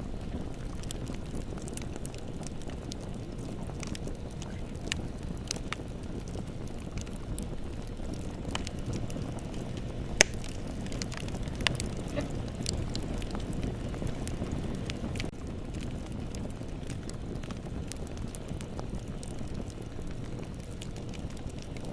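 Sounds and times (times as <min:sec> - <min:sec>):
burning wood crackling and popping: 0:00.0 - 0:21.9
low rumble of flames: 0:00.0 - 0:21.9.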